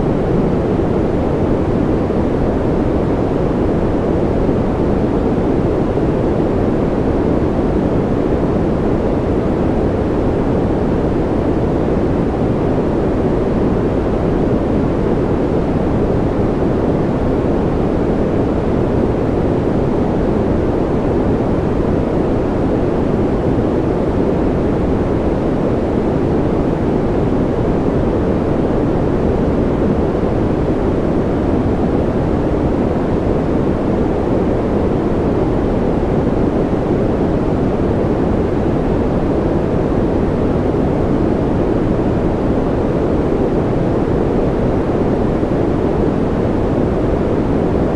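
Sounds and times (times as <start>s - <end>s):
muffled white noise hiss: 0.0s - 47.9s.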